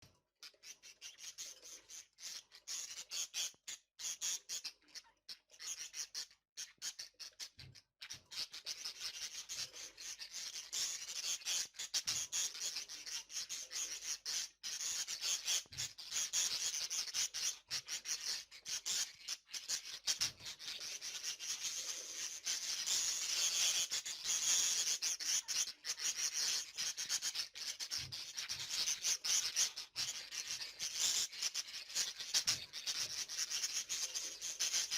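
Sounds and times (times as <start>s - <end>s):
budgerigars chattering and chirping: 0.4s - 34.9s.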